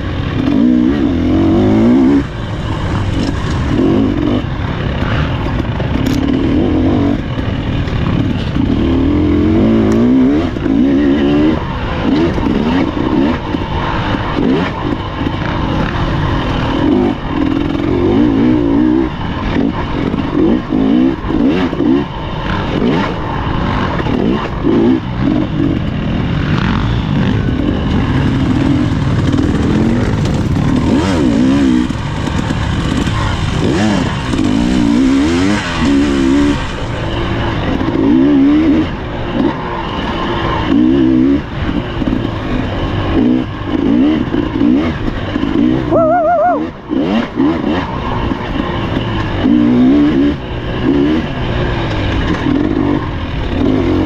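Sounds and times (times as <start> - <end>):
dirt bike engine revving: 0.0 - 54.0
rough mechanical noise: 0.0 - 54.0.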